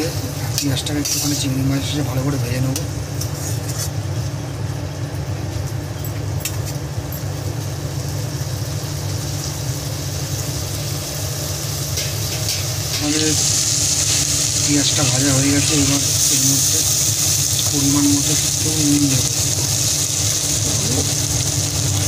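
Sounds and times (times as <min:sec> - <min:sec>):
low mechanical hum: 0:00.0 - 0:22.0
prawns and onion frying in oil: 0:00.0 - 0:22.0.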